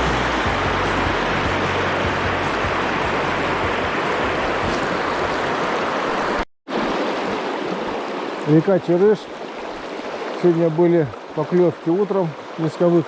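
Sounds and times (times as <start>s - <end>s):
river water rushing over rapids: 0.0s - 13.0s.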